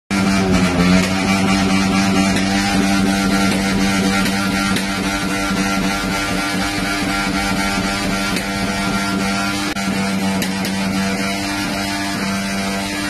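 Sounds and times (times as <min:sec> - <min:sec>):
steady low machine drone: 0:00.1 - 0:13.0.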